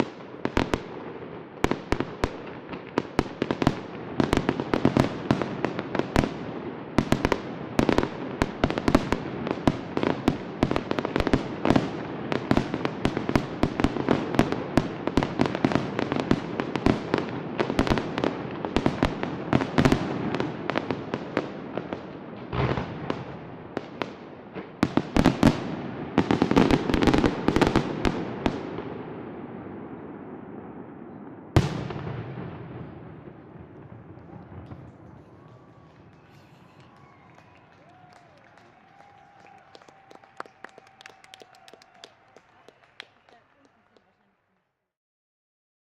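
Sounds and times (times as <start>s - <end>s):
fireworks bangs and crackling: 0.0s - 44.1s.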